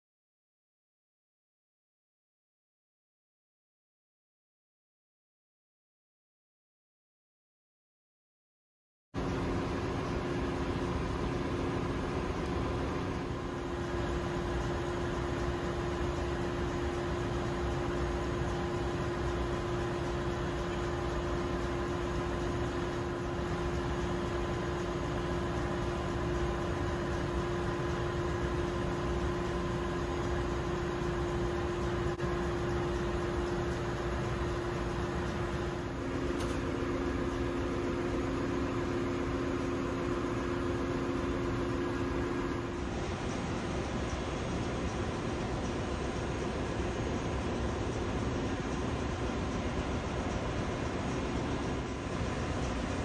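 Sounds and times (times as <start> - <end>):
engine room machinery drone: 9.2 - 53.0.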